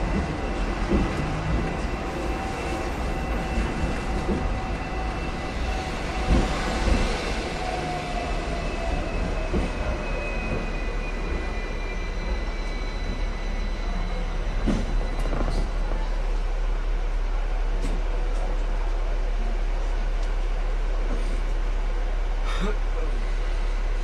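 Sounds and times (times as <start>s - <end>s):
tram rumbling on rails: 0.0s - 24.0s.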